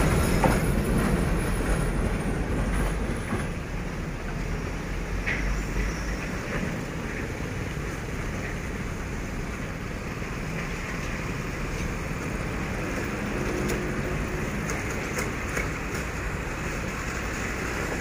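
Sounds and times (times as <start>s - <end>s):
locomotive engine and wheel rumble: 0.0s - 18.0s.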